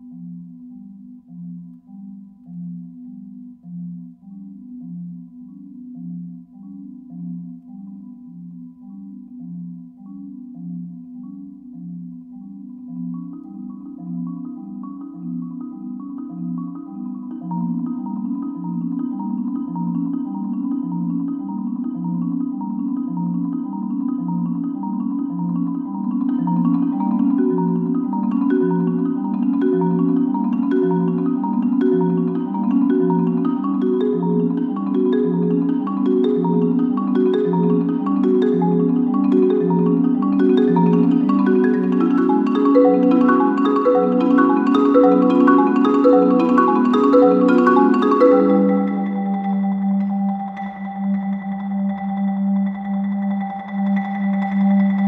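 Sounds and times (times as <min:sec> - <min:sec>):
marimba playing: 0:00.0 - 0:55.0.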